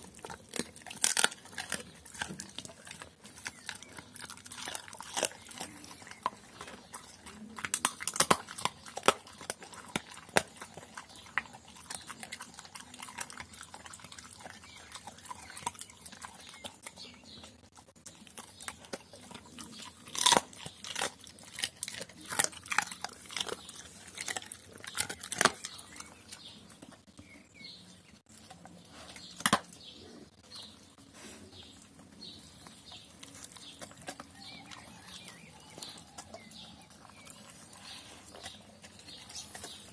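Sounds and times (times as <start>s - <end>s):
dog chewing and crunching: 0.0s - 39.9s.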